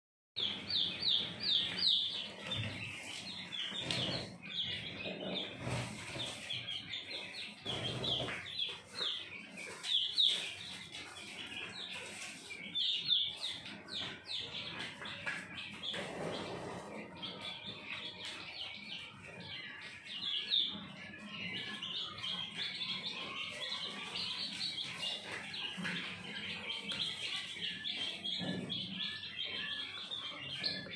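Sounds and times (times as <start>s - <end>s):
young quail peeping: 0.4s - 30.9s.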